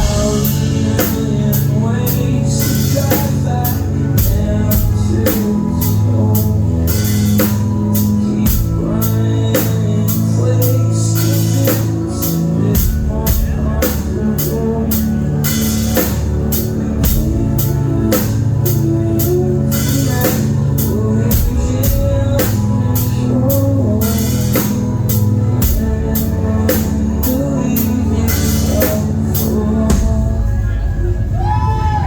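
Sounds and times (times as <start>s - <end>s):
person singing: 0.0s - 32.0s
rock band playing: 0.0s - 32.0s.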